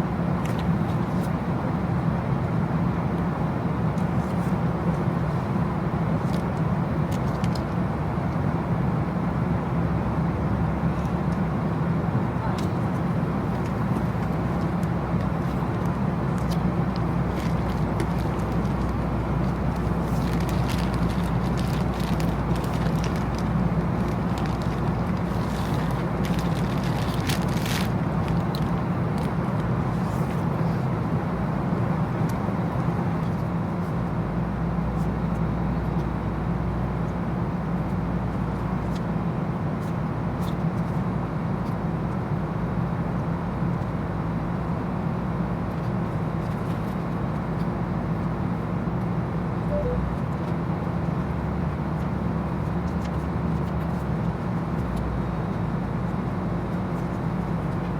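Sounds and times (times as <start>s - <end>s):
moving vehicle rumbling: 0.0s - 57.9s.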